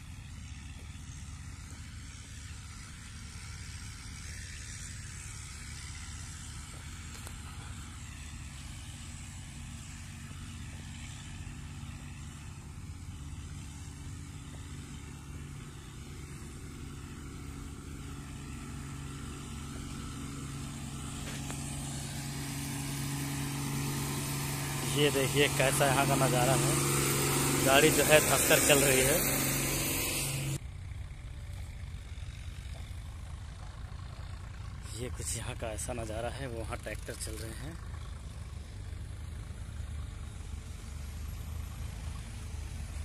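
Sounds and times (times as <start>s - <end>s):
diesel truck engine labouring: 0.0s - 43.0s.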